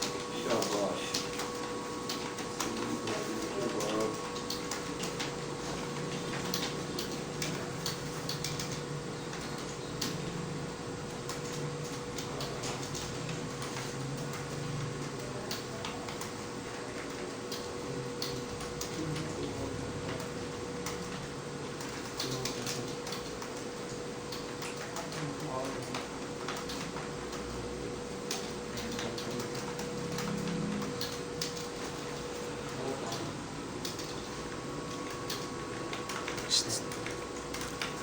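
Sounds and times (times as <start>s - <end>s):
keyboard keys clicking: 0.0s - 10.3s, 11.2s - 23.6s, 28.2s - 38.0s
steady electrical hum: 0.0s - 38.0s.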